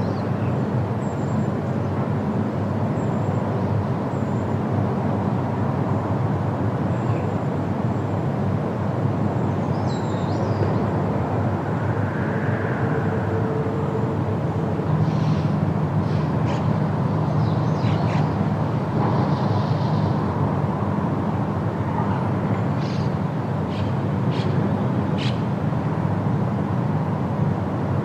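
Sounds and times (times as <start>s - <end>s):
wind through trees: 0.0s - 28.0s.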